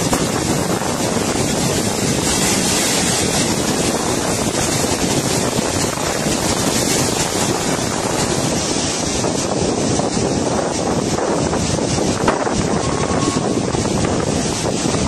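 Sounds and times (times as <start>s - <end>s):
floodwater rushing: 0.0s - 15.0s
wind on microphone: 0.0s - 15.0s.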